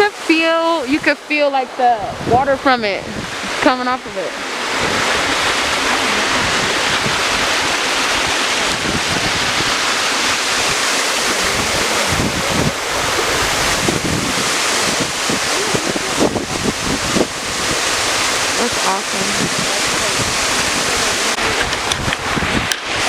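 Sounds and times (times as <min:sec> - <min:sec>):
waterfall rushing: 0:00.0 - 0:23.0
wind buffeting microphone: 0:00.0 - 0:23.0.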